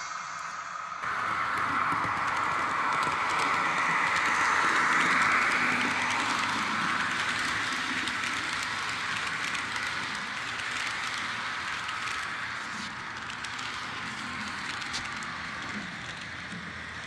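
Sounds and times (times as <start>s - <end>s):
model train rolling: 1.0s - 17.0s.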